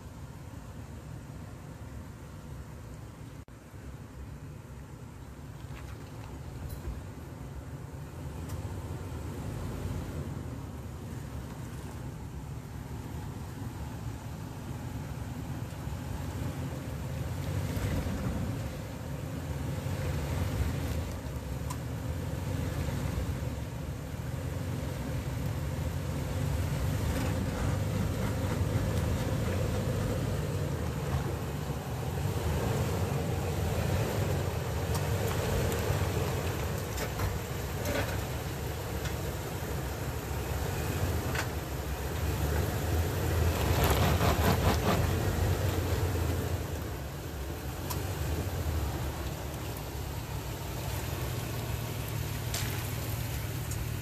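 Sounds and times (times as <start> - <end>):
engine running at low revs: 0.0 - 54.0.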